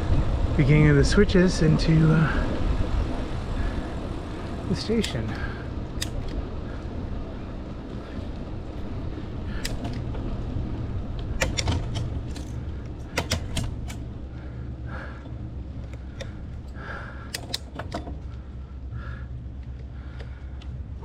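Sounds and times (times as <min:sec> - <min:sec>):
wind rumbling on microphone: 0:00.0 - 0:21.0
bicycle clicks and rattles: 0:02.3 - 0:21.0.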